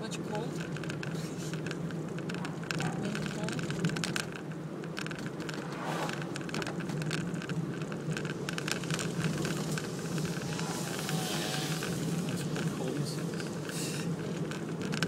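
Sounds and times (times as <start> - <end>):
car engine hum: 0.0 - 15.0
tyre noise: 0.0 - 15.0.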